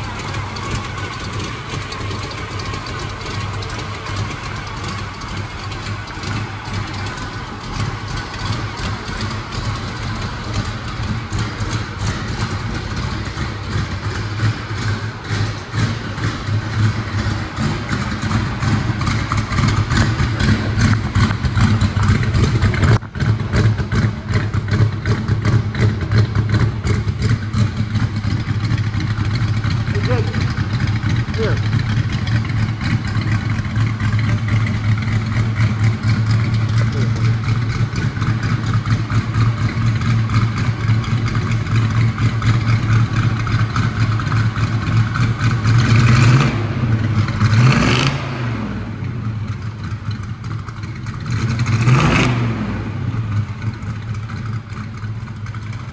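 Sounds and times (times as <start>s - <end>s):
car engine idling with loping beat: 0.0s - 52.2s, 52.8s - 55.9s.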